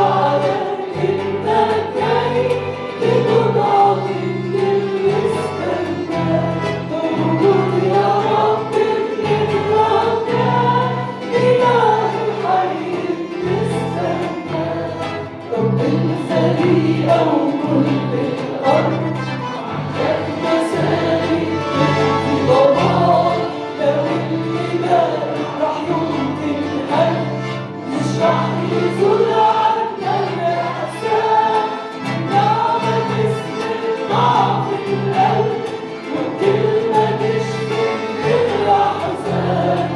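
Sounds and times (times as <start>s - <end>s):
group singing a hymn: 0.0s - 39.9s
instrumental accompaniment: 0.0s - 39.9s.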